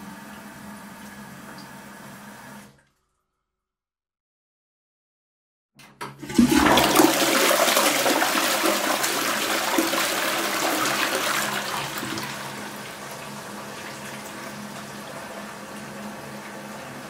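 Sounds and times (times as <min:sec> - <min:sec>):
toilet flushing: 0:00.0 - 0:02.9, 0:06.0 - 0:17.0.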